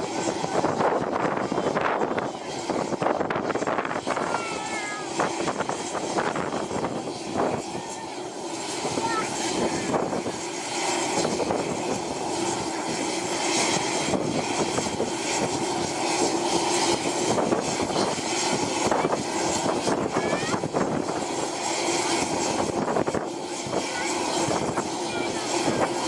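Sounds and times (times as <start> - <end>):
helicopter turbines and rotor: 0.0 - 26.0.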